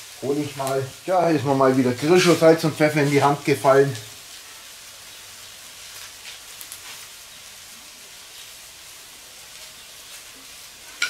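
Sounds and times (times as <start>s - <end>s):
faint crackles: 0.0s - 11.0s
vegetables sizzling in a pan: 0.0s - 11.0s.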